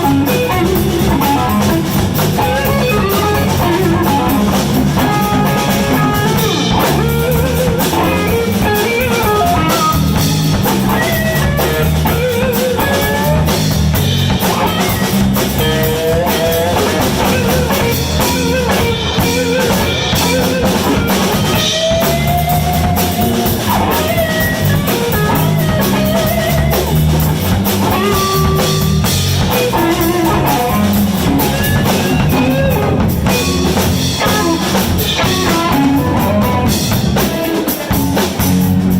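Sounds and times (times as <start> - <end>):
bass guitar: 0.0 - 38.9
drum kit: 0.0 - 38.9
lead guitar bending notes: 0.0 - 38.9.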